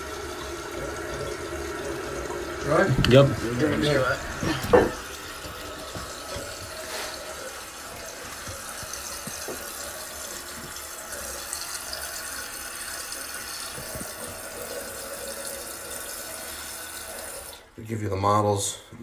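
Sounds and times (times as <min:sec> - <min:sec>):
toilet tank refilling: 0:00.0 - 0:18.2.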